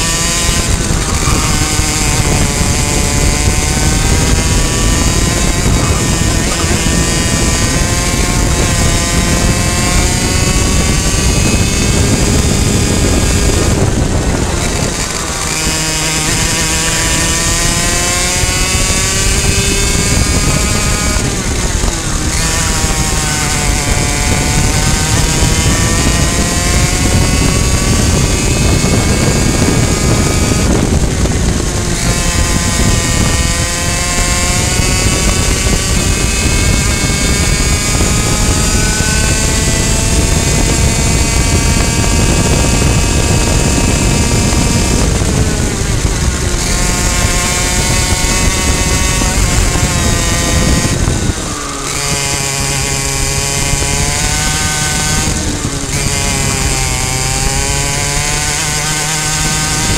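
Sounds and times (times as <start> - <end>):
kart engine revving high: 0.0 - 59.9
wind noise rushing: 0.0 - 59.9.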